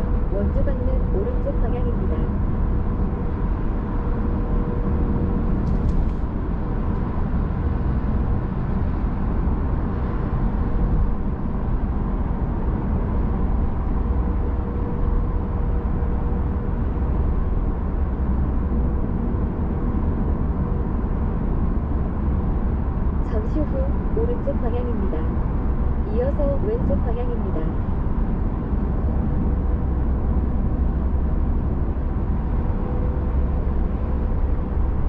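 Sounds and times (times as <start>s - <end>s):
road and tyre noise in car cabin: 0.0s - 35.0s.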